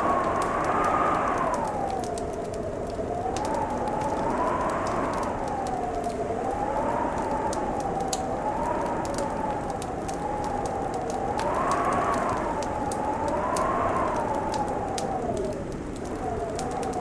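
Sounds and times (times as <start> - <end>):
wind howling: 0.0 - 17.0
wood fire crackling and popping: 0.0 - 17.0.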